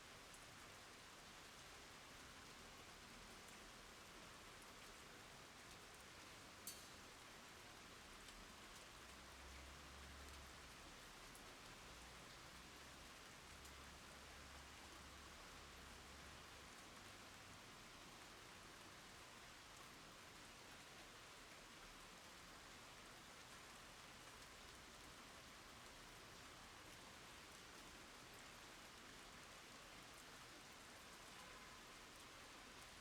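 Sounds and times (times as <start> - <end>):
rain pattering on ground and puddles: 0.0 - 33.0.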